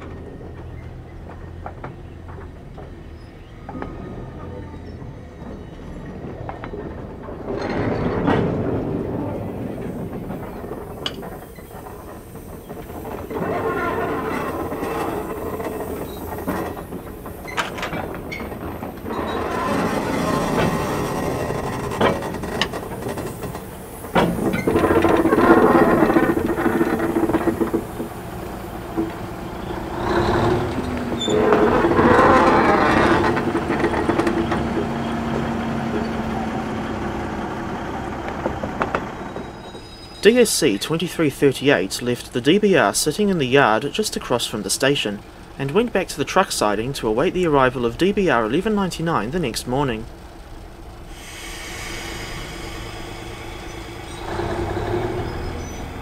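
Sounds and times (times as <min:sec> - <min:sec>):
diesel locomotive engine running: 0:00.0 - 0:56.0
train wheels clicking over rail joints: 0:00.0 - 0:56.0.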